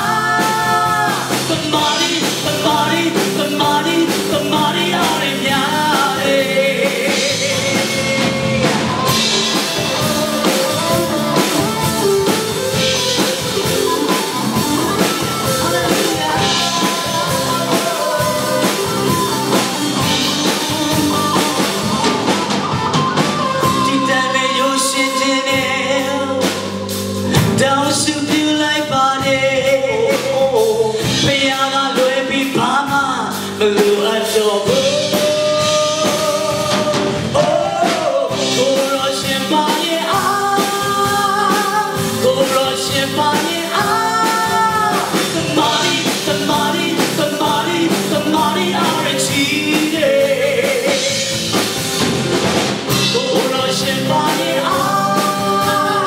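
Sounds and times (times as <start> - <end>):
electric guitar playing: 0.0 - 28.3, 34.7 - 56.0
drum kit: 0.0 - 56.0
man singing: 0.0 - 56.0.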